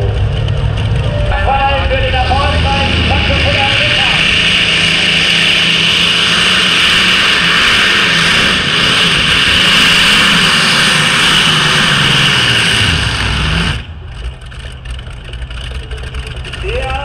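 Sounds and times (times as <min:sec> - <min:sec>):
pulling tractor engine roaring: 0:00.0 - 0:17.0.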